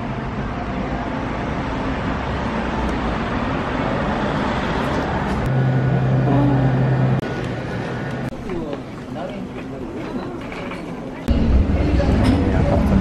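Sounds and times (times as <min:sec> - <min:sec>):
street traffic passing: 0:00.0 - 0:13.0.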